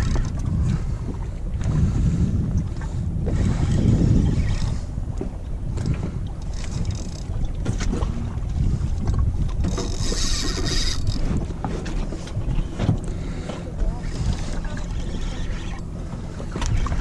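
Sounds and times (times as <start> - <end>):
water washing against boat hull: 0.0 - 17.0
wind rumbling on microphone: 0.0 - 17.0.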